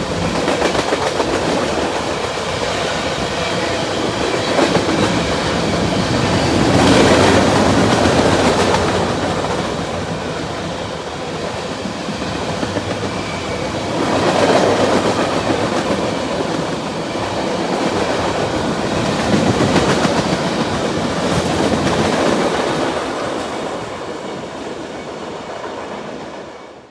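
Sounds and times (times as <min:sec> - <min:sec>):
train wheels clacking on rails: 0:00.0 - 0:26.6.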